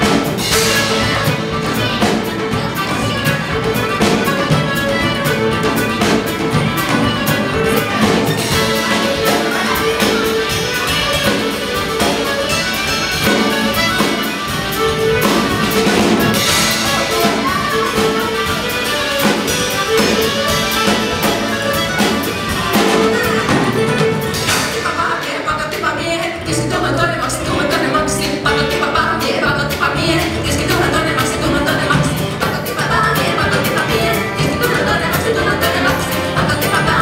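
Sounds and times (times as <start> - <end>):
drum kit beat: 0.0 - 37.0
live folk band playing: 0.0 - 37.0.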